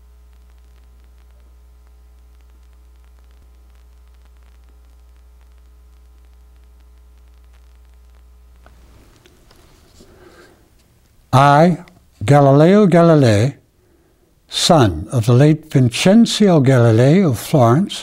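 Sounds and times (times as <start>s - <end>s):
electrical mains hum: 0.0s - 18.0s
faint hiss: 0.0s - 18.0s.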